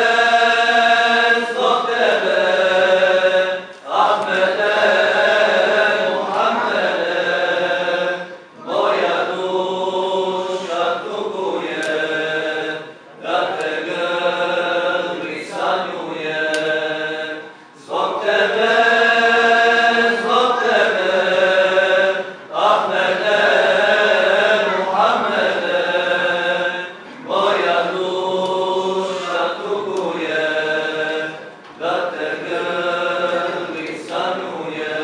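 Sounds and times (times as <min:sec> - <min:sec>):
voices chanting a hymn: 0:00.0 - 0:35.0.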